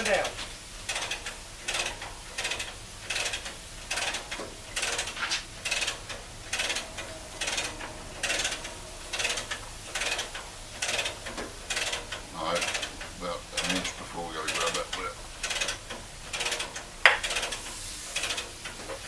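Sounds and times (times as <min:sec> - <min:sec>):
ratchet hoist clicking: 0:00.0 - 0:19.0.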